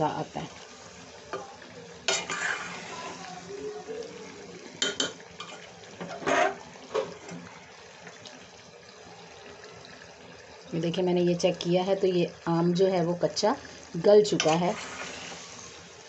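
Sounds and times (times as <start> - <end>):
faint sizzle of cooking: 0.0 - 16.0.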